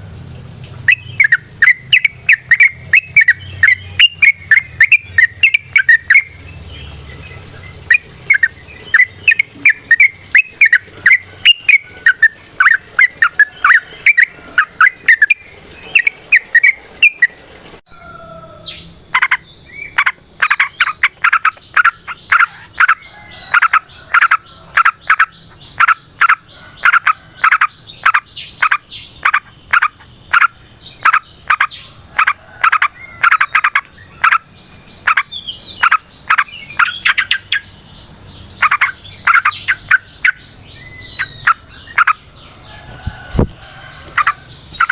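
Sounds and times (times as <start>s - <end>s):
bulbul singing: 0.0s - 44.9s.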